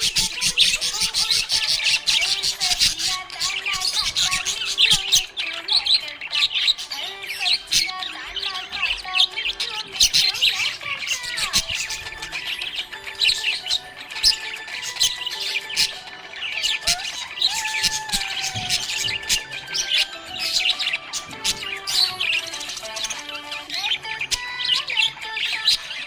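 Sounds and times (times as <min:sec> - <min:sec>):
background music with held notes: 0:00.0 - 0:26.0
budgerigar squawks: 0:00.0 - 0:26.0
budgerigars chirping and warbling: 0:00.0 - 0:26.0.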